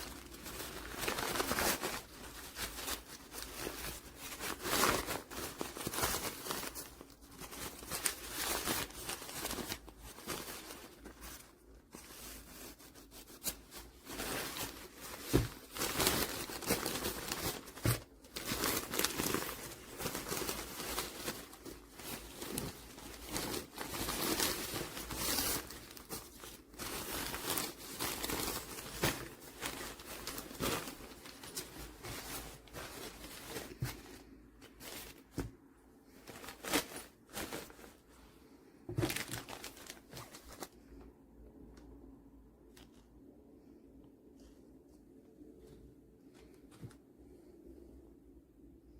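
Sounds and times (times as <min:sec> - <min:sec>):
material rustling and crinkling: 0:00.0 - 0:41.8.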